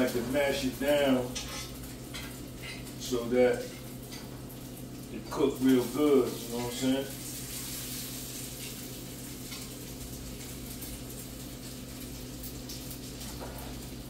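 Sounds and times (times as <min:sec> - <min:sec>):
bacon sizzling in a frying pan: 0:00.0 - 0:14.0
low steady hum: 0:00.0 - 0:14.0.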